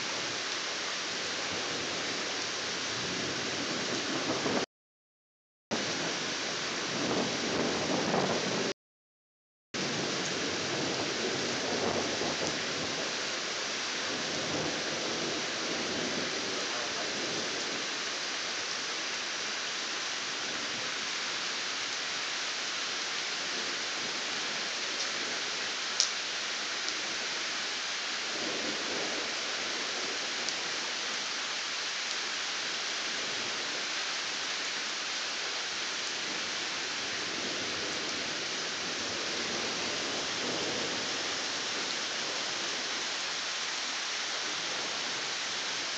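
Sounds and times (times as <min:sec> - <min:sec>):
rain hissing: 0:05.7 - 0:08.7, 0:09.8 - 0:45.9.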